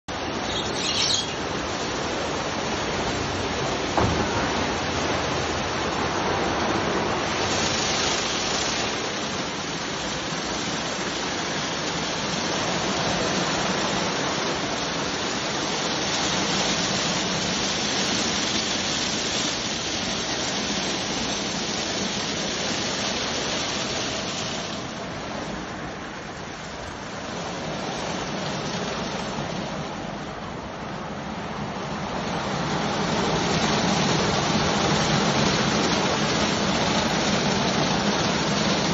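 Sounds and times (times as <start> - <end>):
water spraying and brushes washing: 0.0 - 30.5, 31.5 - 38.9.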